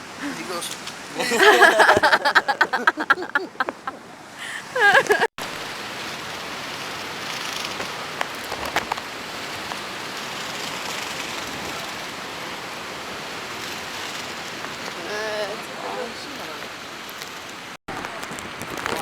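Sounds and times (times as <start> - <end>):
heavy rain hissing: 0.0 - 3.4, 4.2 - 18.9.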